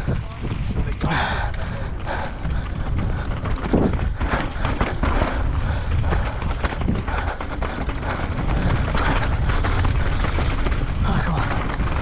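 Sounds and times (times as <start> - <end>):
bike tyres crunching on dirt trail: 0.0 - 12.0
wind buffeting microphone: 0.0 - 12.0.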